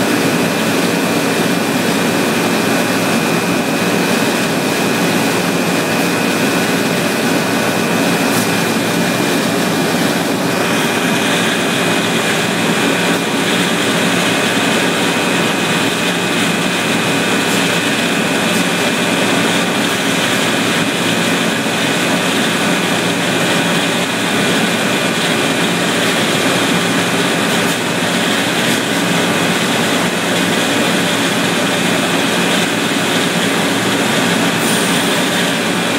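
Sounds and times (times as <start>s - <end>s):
factory machinery drone: 0.0s - 35.9s.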